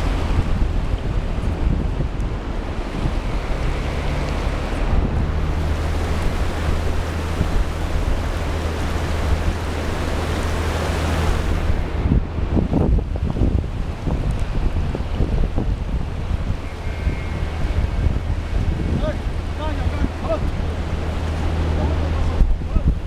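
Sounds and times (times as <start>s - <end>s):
low engine-like hum: 0.0s - 23.0s
rushing wind noise: 0.0s - 23.0s.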